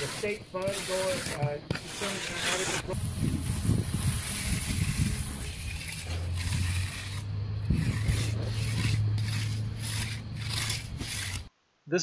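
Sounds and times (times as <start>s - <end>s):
trowel scraping concrete: 0.0s - 11.5s.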